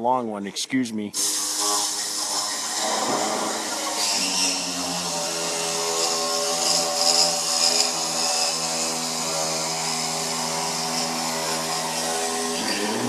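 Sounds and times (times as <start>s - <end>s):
power tool humming and hissing: 1.2s - 13.0s.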